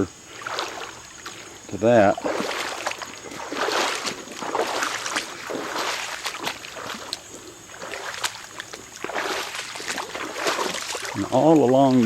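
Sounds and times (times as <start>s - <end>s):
creek water splashing over rocks: 0.0s - 12.0s.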